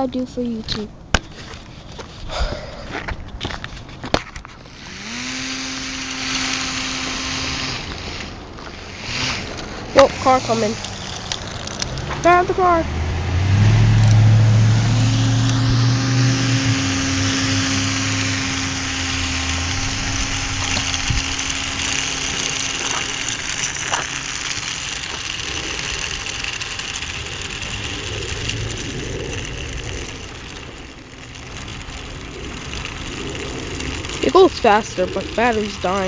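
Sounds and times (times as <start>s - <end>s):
small electric fan whining: 0.0s - 36.0s
passing car engine: 4.8s - 35.7s.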